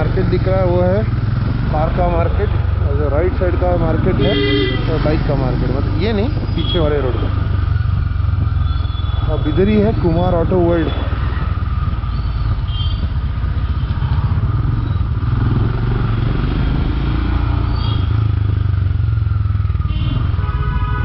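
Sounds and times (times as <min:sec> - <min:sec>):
motorcycle engine throbbing: 0:00.0 - 0:21.0.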